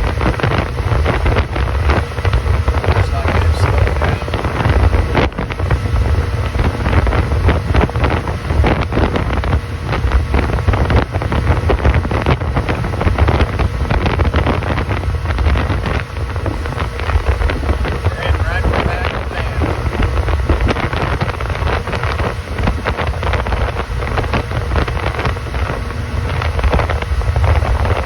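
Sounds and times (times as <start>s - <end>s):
boat motor: 0.0s - 28.0s
water noise: 0.0s - 28.0s
wind buffeting microphone: 0.0s - 28.0s.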